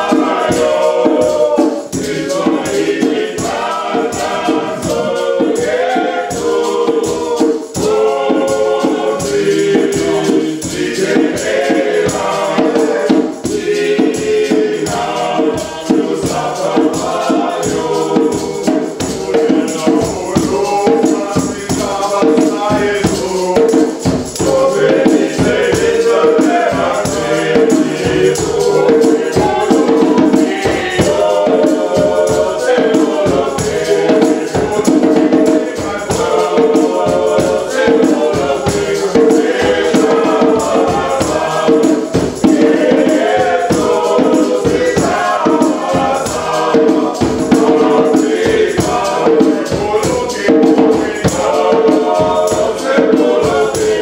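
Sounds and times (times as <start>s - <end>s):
djembe beat: 0.0s - 54.0s
group singing in harmony: 0.0s - 54.0s
tambourine: 0.0s - 54.0s.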